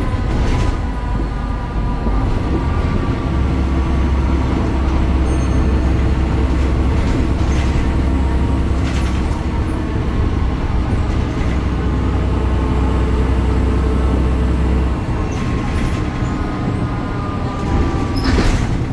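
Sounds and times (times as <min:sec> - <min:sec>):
bus diesel engine low hum: 0:00.0 - 0:18.9.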